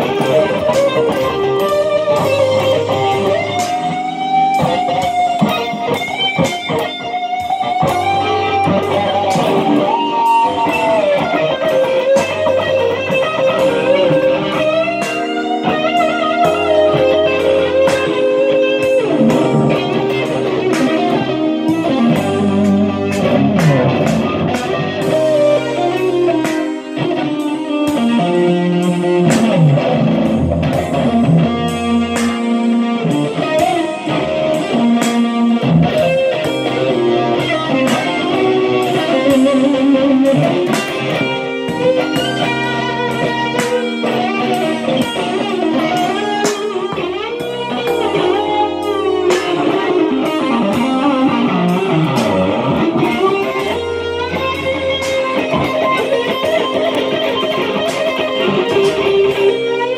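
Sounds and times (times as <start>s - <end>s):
electric guitar lead lines: 0.0s - 59.9s
held bass notes and chords: 0.0s - 59.9s.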